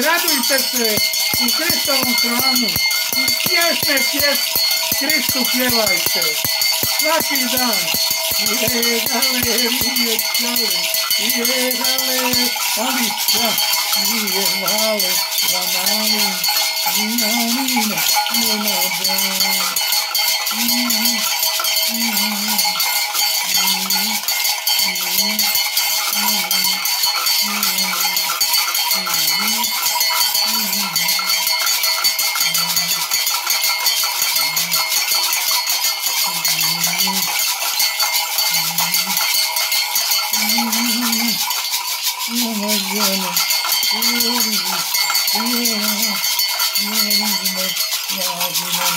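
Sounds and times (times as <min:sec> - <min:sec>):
man chanting: 0:00.0 - 0:19.8, 0:20.5 - 0:22.8, 0:23.4 - 0:31.4, 0:32.4 - 0:33.2, 0:34.4 - 0:35.0, 0:36.2 - 0:37.4, 0:38.5 - 0:39.3, 0:40.3 - 0:41.5, 0:42.2 - 0:48.9
bells and rattles shaken: 0:00.0 - 0:48.9.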